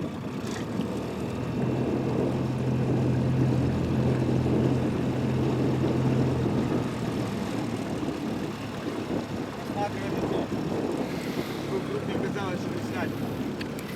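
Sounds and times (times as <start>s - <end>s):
outboard motor running: 0.0s - 13.9s
water noise: 0.0s - 13.9s.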